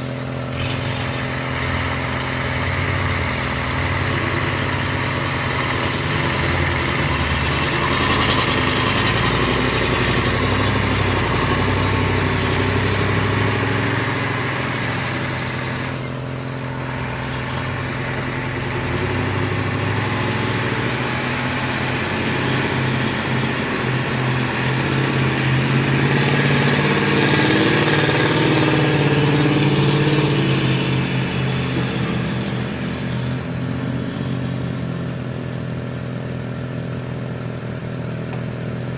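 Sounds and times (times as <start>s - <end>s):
heavy vehicle engine running: 0.0s - 38.9s.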